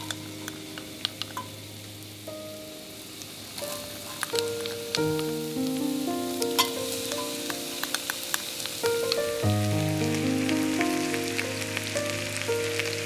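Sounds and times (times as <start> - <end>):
soft background music: 0.0 - 13.0
vegetables sizzling in oil: 0.0 - 13.0.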